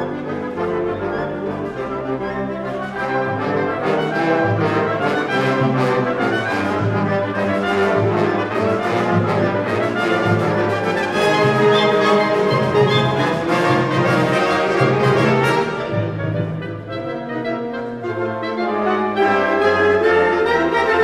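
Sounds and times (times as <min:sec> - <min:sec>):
orchestra playing held chords: 0:00.0 - 0:21.0.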